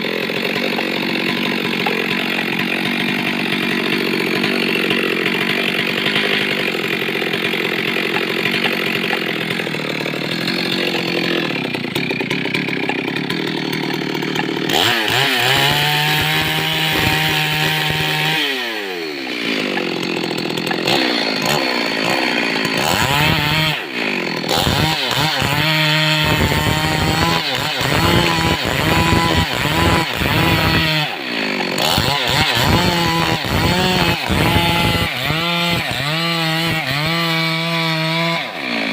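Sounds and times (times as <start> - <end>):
chainsaw cutting through wood: 0.0 - 38.9
chainsaw engine revving: 0.0 - 38.9.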